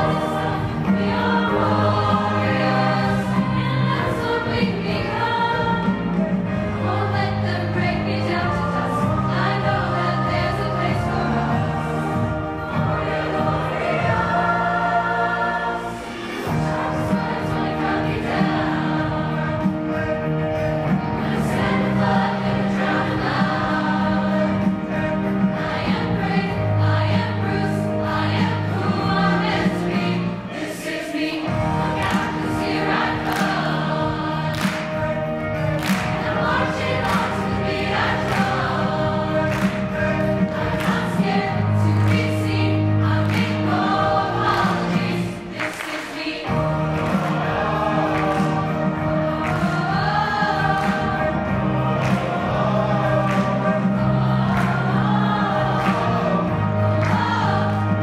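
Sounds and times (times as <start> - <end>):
large choir singing: 0.0 - 58.0.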